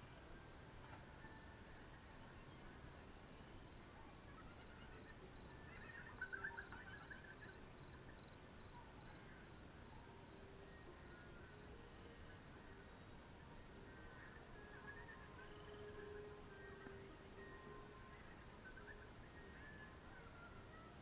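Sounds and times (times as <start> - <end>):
faint cricket-like chirping: 0.0 - 21.0.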